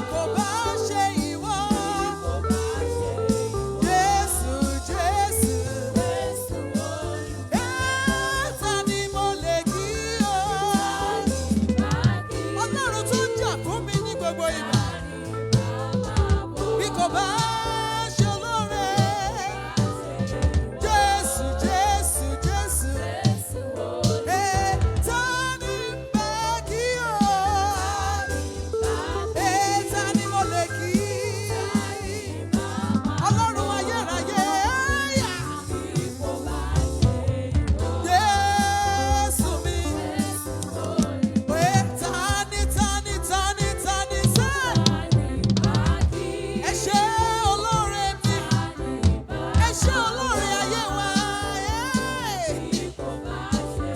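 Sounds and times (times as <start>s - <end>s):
gospel worship music: 0.0s - 53.9s.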